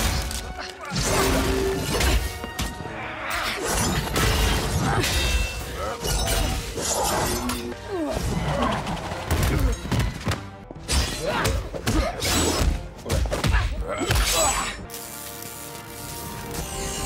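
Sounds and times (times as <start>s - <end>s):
film soundtrack music: 0.0s - 17.0s.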